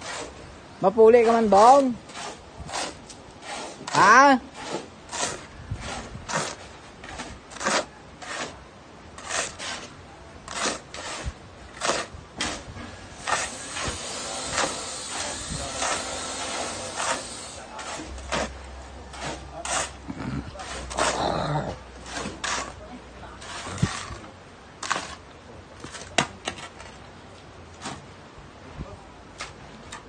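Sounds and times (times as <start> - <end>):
shovel scraping sand and cement: 0.0 - 27.0.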